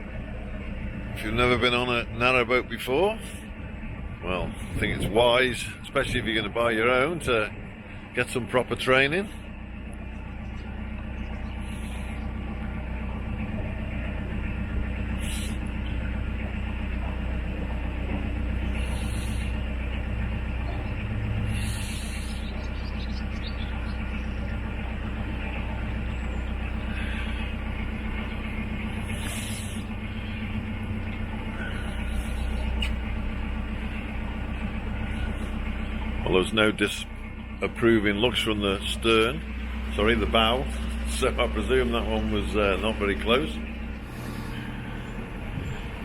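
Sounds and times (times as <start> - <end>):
diesel engine humming: 0.0 - 46.0.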